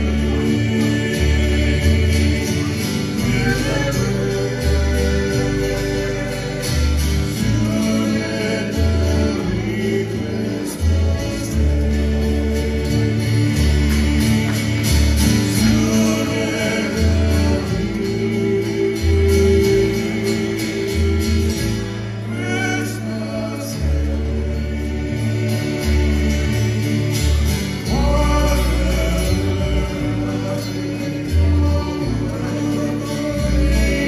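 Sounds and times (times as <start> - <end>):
men singing in harmony: 0.0 - 34.0
strummed acoustic guitars: 0.0 - 34.0
walking bass line: 0.0 - 34.0.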